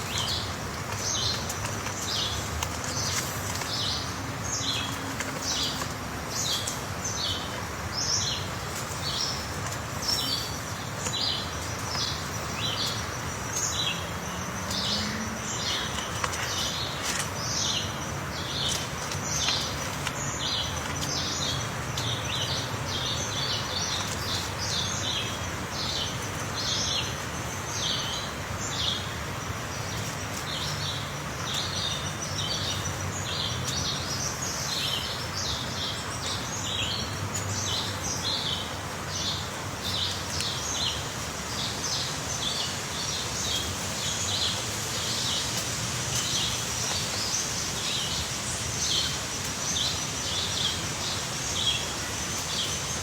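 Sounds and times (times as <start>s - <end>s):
small birds chirping: 0.0s - 53.0s
steady hiss: 0.0s - 53.0s.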